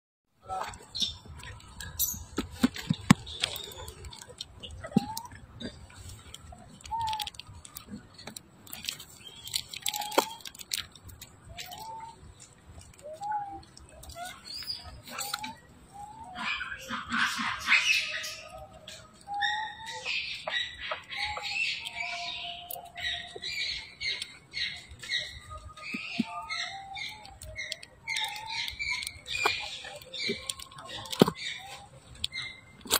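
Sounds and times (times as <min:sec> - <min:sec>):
monkeys squeaking and chirping: 0:00.5 - 0:32.9.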